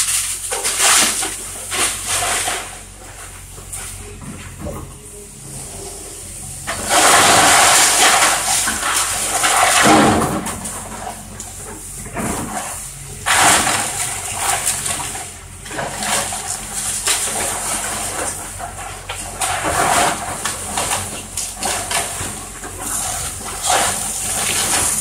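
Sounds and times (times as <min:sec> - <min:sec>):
wood splintering and debris falling: 0:00.0 - 0:04.9, 0:06.6 - 0:25.0
excavator engine running: 0:00.0 - 0:25.0.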